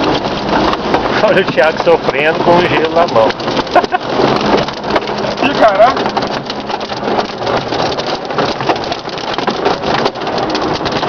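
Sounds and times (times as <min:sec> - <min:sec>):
hailstones clattering: 0:00.0 - 0:11.0
pouring rain: 0:00.0 - 0:11.0.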